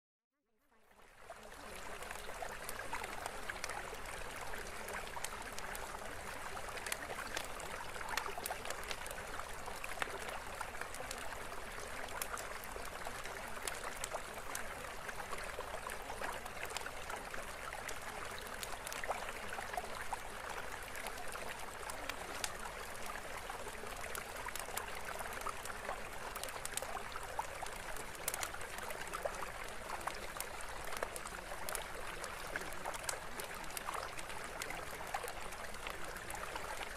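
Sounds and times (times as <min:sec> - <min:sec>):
small splashes and drips: 0:01.2 - 0:36.9.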